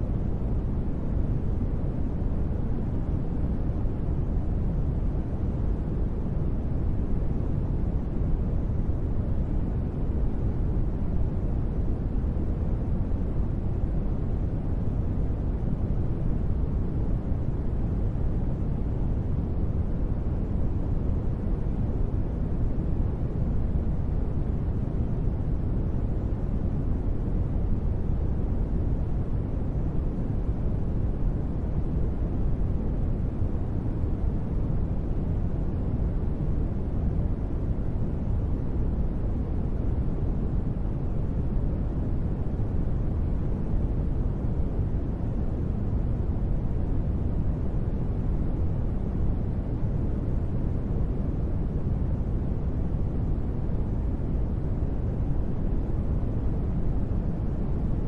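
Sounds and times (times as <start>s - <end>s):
deep dull ambient noise: 0.0s - 58.0s.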